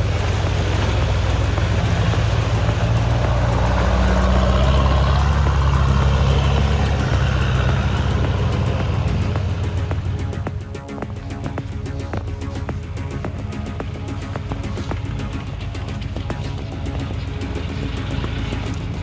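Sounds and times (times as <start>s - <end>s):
steady rushing noise: 0.0s - 19.0s
vehicle engine running at low revs: 0.0s - 19.0s.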